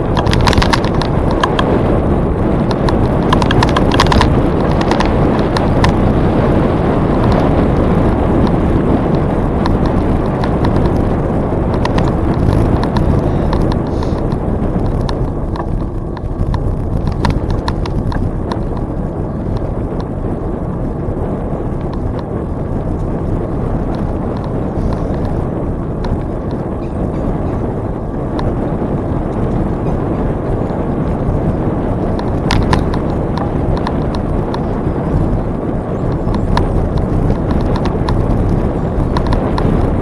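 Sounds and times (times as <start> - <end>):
bicycle tyre noise: 0.0 - 40.0
bike rattling clicks: 0.0 - 40.0
wind on microphone: 0.0 - 40.0.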